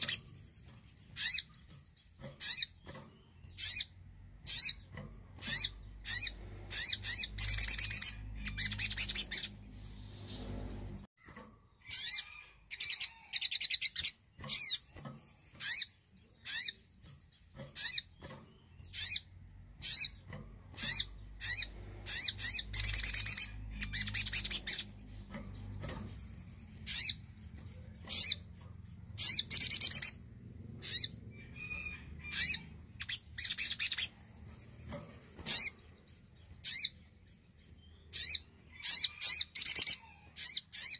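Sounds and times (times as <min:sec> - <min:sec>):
songbird trilled chirps: 0:00.0 - 0:40.9.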